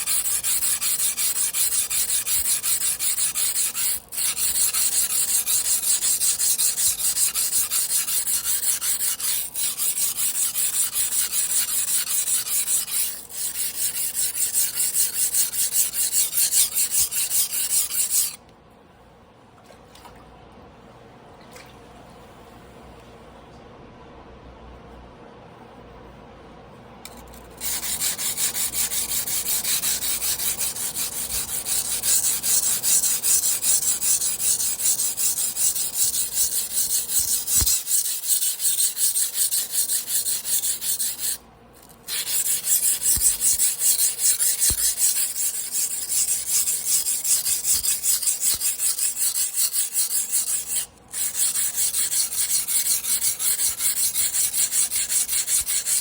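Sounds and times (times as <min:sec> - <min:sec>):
knife rasping on a whetstone: 0:00.0 - 0:18.4, 0:27.1 - 0:56.0.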